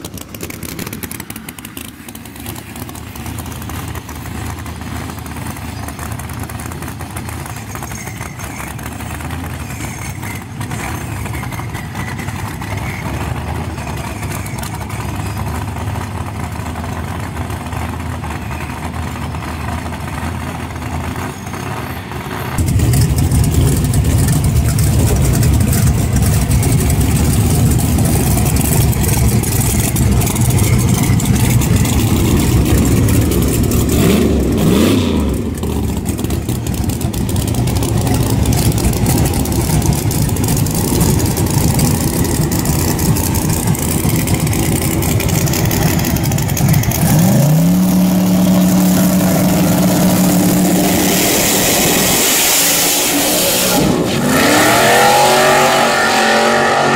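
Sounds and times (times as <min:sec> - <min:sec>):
loud rough car engine revving: 0:00.0 - 0:56.9.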